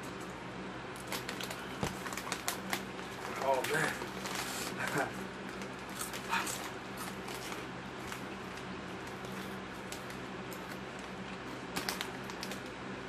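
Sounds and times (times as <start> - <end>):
steady low hum: 0.0 - 13.0
snack bag crinkling: 1.0 - 12.8.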